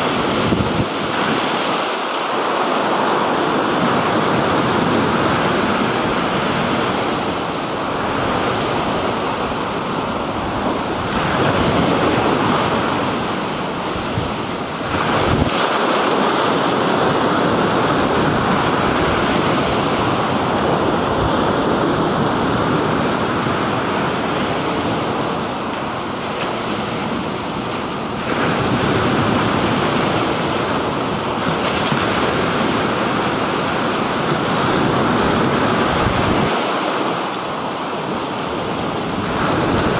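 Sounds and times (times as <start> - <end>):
wind buffeting microphone: 0.0 - 36.7
surf washing onto shore: 0.0 - 39.9.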